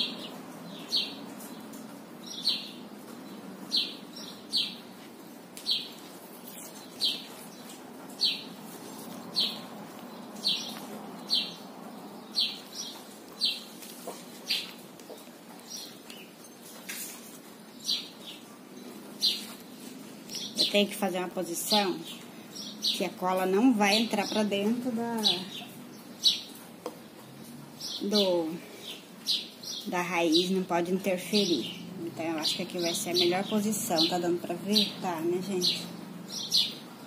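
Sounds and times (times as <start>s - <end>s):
bird chirping: 0.0s - 37.0s
low background noise: 0.0s - 37.0s.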